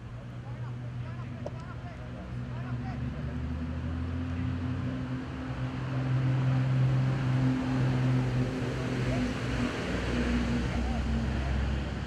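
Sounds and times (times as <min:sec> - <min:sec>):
low engine hum: 0:00.0 - 0:12.0
noisy outdoor background: 0:00.0 - 0:12.0.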